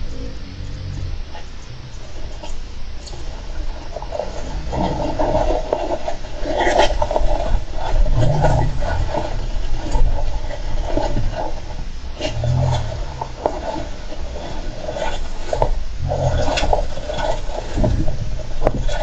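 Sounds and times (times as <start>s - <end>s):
hamster scratching and scraping: 2.4s - 19.0s.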